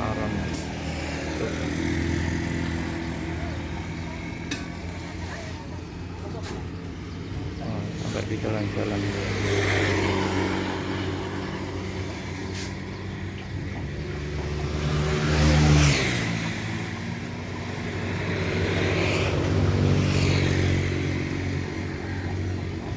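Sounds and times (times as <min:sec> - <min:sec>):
passing traffic whoosh: 0:00.0 - 0:22.9.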